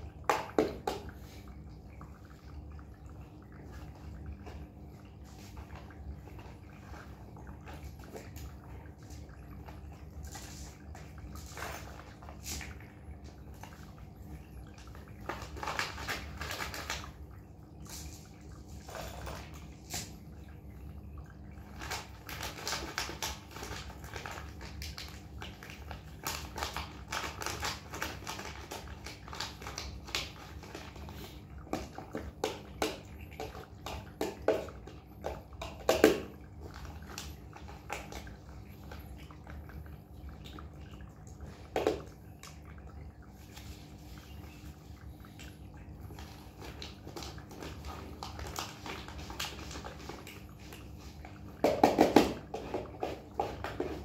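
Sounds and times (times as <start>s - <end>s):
kittens eating: 1.0s - 51.6s.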